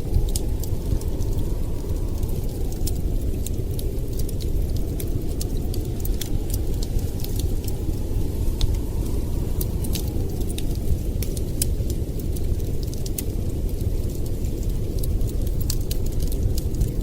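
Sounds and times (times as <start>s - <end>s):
steady low rumble: 0.0s - 17.0s
wood fire crackling: 0.0s - 17.0s.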